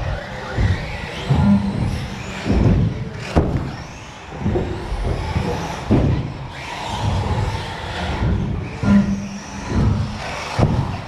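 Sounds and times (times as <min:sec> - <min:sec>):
model car motors whining: 0:00.0 - 0:11.0.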